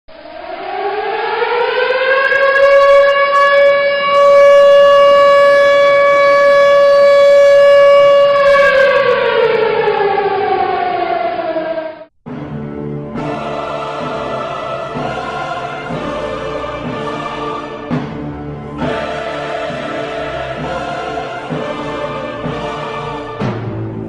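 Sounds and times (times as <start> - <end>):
siren wailing: 0.1 - 12.1, 12.7 - 24.0.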